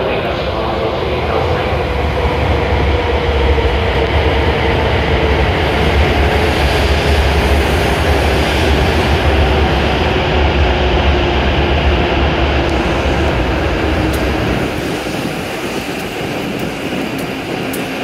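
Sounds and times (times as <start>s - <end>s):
train cars rumbling past: 0.0s - 18.0s.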